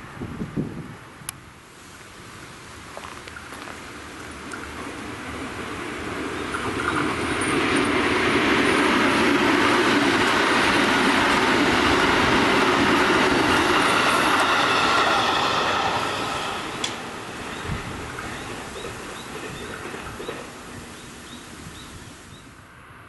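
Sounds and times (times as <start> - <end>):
electric train passing: 0.0 - 23.0
train wheels on rails: 2.5 - 23.0.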